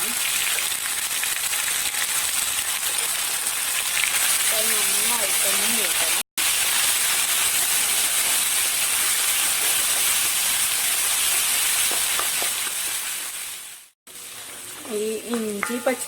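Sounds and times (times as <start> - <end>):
paste sizzling in hot oil: 0.0 - 16.0.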